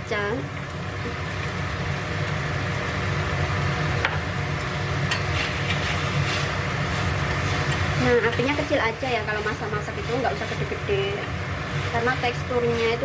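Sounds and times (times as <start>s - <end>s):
low cooktop hum: 0.0s - 13.0s
vegetables sizzling in frying pan: 0.0s - 13.0s.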